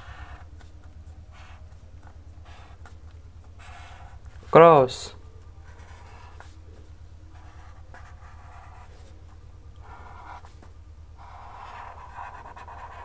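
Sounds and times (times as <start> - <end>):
pen scratching on paper: 0.0 - 4.3, 5.6 - 13.0
steady low hum: 0.0 - 13.0.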